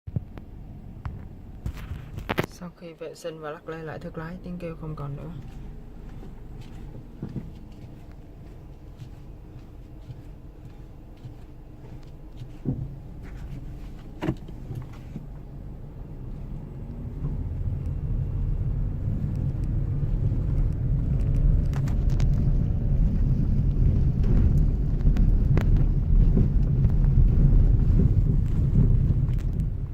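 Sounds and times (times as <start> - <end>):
car road and engine rumble: 0.1 - 29.9.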